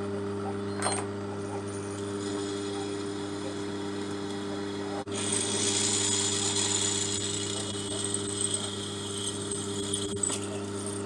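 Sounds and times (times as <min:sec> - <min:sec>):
drill press motor hum: 0:00.8 - 0:11.0
drill bit cutting metal: 0:01.7 - 0:11.0.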